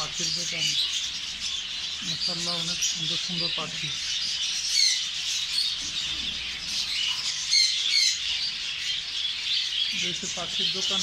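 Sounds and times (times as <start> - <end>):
caged birds chirping and chattering: 0.0 - 11.0
sharp bird calls: 0.0 - 11.0.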